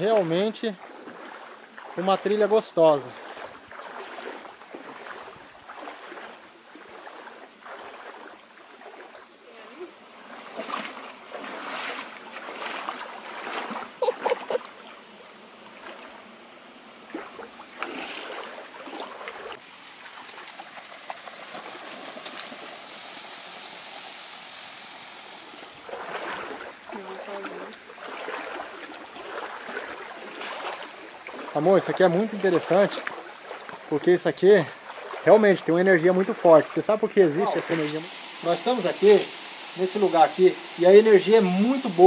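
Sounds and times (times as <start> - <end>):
stream running: 0.0 - 42.0.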